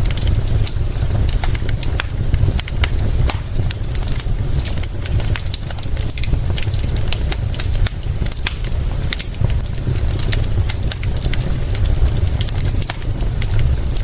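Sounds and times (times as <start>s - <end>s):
steady low rumble: 0.0s - 14.0s
wood fire crackling: 0.0s - 14.0s.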